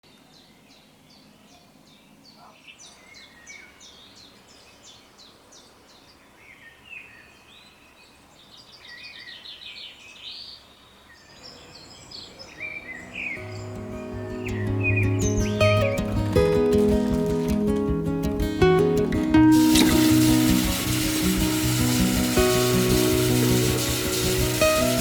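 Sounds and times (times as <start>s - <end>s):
birds singing: 0.1s - 16.2s, 19.5s - 25.0s.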